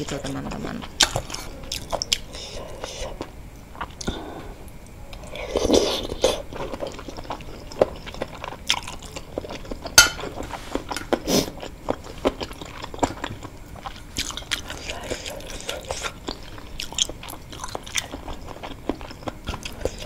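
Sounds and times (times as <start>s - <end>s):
chewing and biting: 0.9s - 20.0s.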